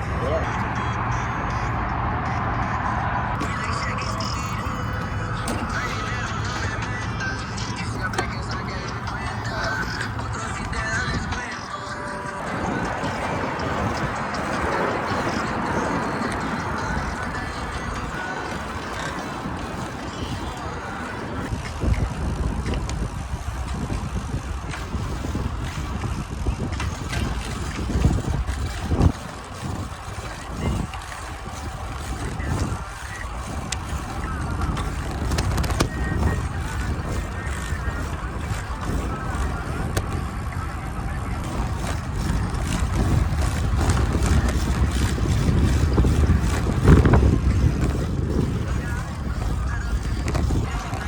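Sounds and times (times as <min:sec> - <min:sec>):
road and tyre noise: 0:00.0 - 0:51.0
wind buffeting microphone: 0:00.0 - 0:51.0.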